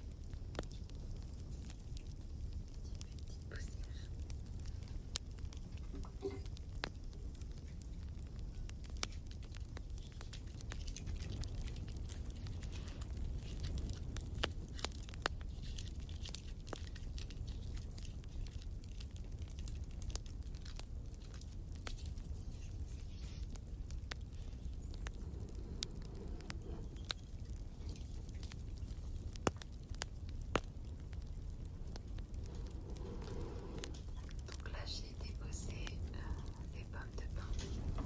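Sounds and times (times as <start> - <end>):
crackling wood fire: 0.0 - 38.0.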